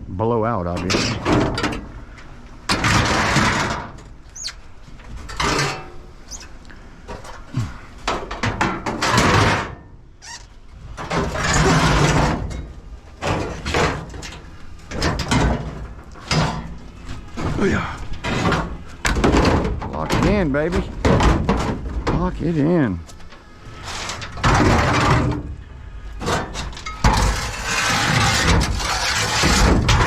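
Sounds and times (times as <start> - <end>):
scrap metal scraping and clattering: 0.8 - 9.9, 10.8 - 22.6, 23.2 - 30.0.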